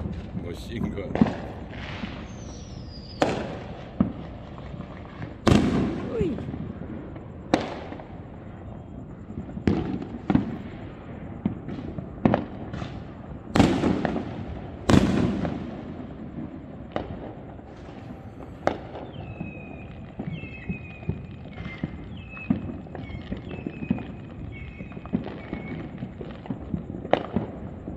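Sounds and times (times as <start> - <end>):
distant fireworks booming: 0.0 - 27.9.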